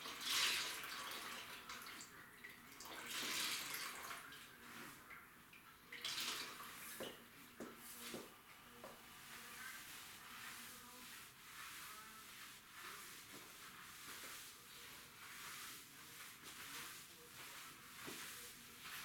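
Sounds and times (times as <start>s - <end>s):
mop swishing on tiled floor: 0.0s - 5.3s, 5.9s - 19.0s.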